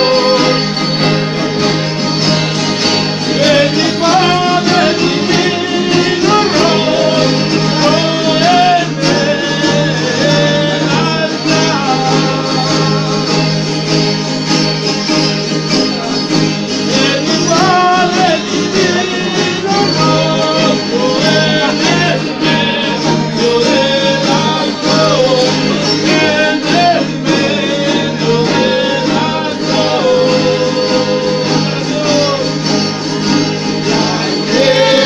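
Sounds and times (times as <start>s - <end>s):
group singing a devotional song: 0.0s - 0.8s, 3.2s - 13.9s, 16.8s - 32.6s, 33.5s - 35.0s
strummed string instruments: 0.0s - 35.0s.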